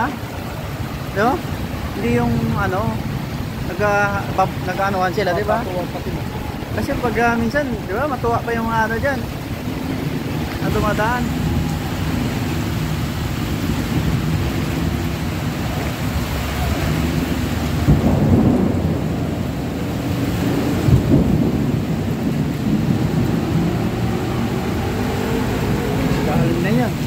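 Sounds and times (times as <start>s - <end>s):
deep rumble: 0.0s - 27.0s
heavy rain pouring: 0.0s - 27.0s.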